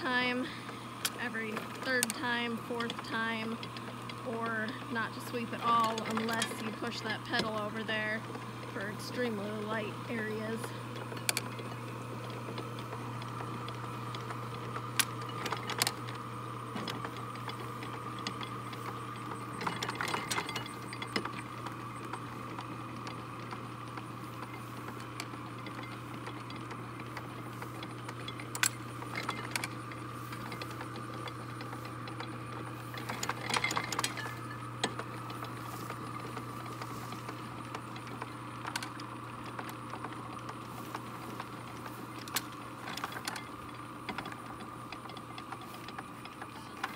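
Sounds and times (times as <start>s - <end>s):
electric motor hum: 0.0s - 46.9s
mechanism clanking and clicking: 0.0s - 46.9s
mechanism rattling: 0.0s - 46.9s.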